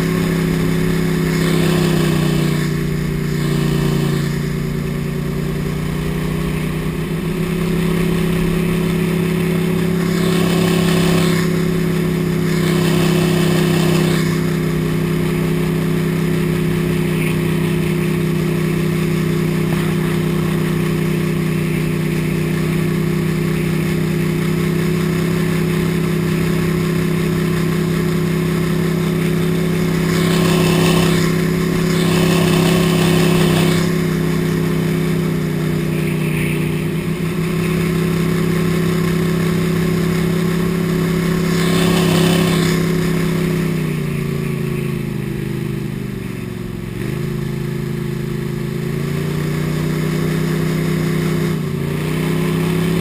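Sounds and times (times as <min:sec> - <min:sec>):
boat engine running hard: 0:00.0 - 0:53.0.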